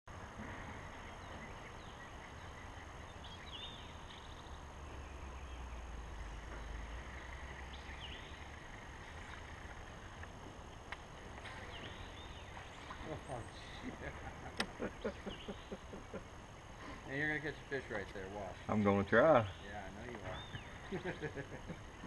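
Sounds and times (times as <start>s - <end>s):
birds chirping: 0.1s - 22.0s
faint high whine: 0.1s - 22.0s
outdoor hiss: 0.1s - 22.0s.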